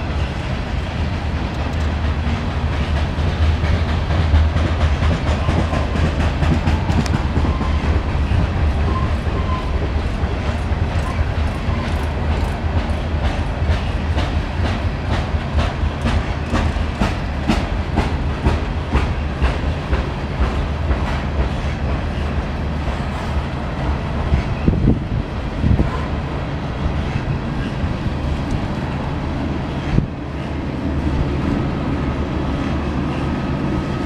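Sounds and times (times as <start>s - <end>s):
train cars rumbling: 0.0s - 34.0s
wheels clicking over rail joints: 0.1s - 29.0s.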